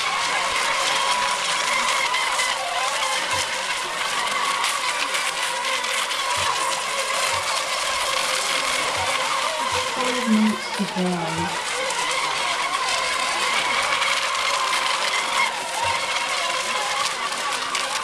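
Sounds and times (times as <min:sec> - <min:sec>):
racing boat motors whining: 0:00.0 - 0:18.0.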